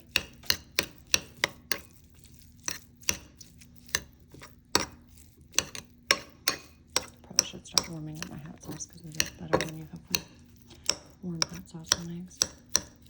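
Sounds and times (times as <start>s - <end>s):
cutlery tapping a dish: 0.0s - 2.0s, 2.6s - 13.0s.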